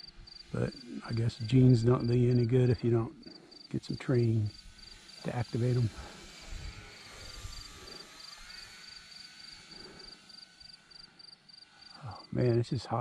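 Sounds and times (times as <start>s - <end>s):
faint outdoor hiss: 0.0s - 13.0s
insects chirping: 0.0s - 13.0s.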